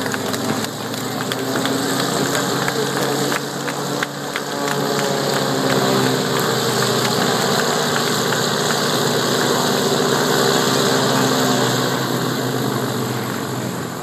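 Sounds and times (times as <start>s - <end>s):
propeller plane engine running: 0.0s - 14.0s.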